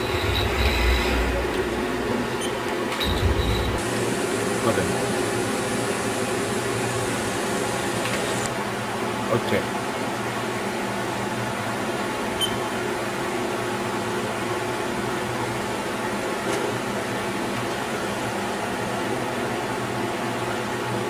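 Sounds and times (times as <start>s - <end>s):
milling machine hum: 0.0s - 21.0s.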